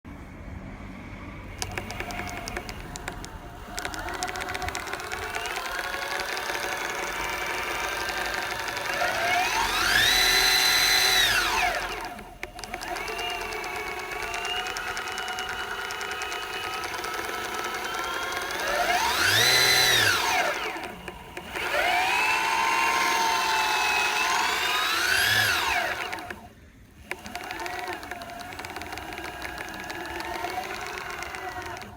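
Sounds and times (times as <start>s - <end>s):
steady running noise: 1.4s - 31.9s
fine rapid wheel clicking: 1.5s - 31.9s
electric skateboard motors whining: 1.6s - 31.9s.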